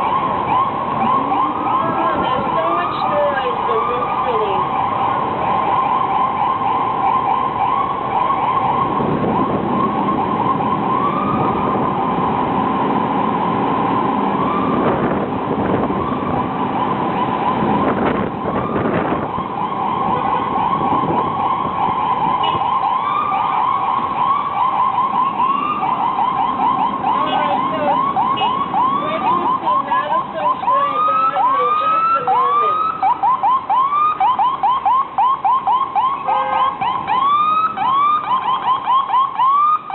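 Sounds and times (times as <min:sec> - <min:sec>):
ambulance siren yelping: 0:00.0 - 0:39.9
rumble of stopped traffic: 0:00.0 - 0:39.9.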